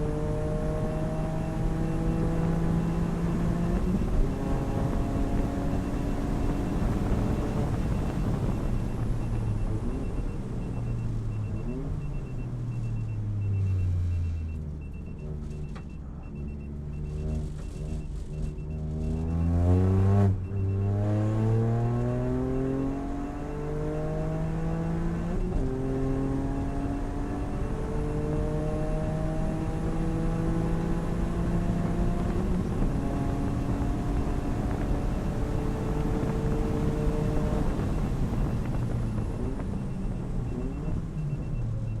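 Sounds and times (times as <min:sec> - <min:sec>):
car engine slowing and accelerating: 0:00.0 - 0:42.0
faint high beep: 0:00.0 - 0:42.0.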